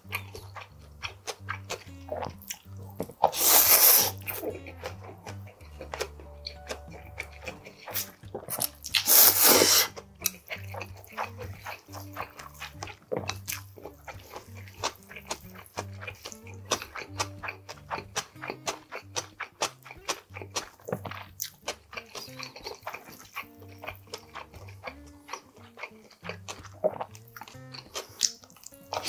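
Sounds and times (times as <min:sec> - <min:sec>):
soft background music: 0:00.0 - 0:29.0
wet chewing clicks: 0:00.0 - 0:29.0.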